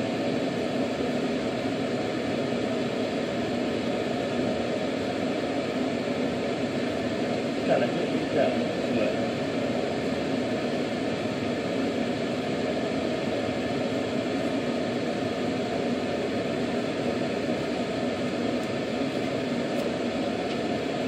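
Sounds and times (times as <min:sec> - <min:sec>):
room ventilation hum and hiss: 0:00.0 - 0:21.0.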